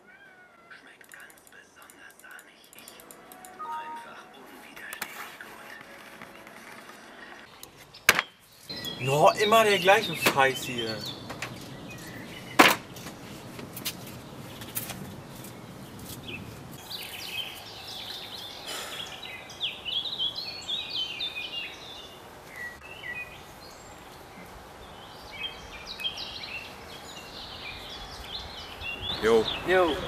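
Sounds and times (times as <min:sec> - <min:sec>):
songbirds chirping: 0:05.7 - 0:30.0.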